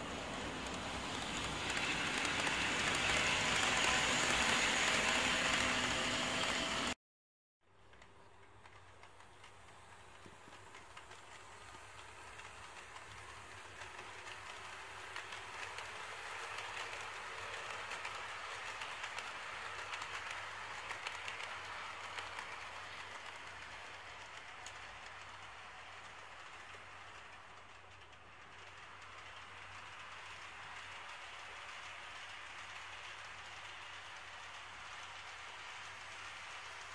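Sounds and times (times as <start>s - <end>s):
model train wheels clicking: 0.0s - 7.0s, 7.7s - 36.9s.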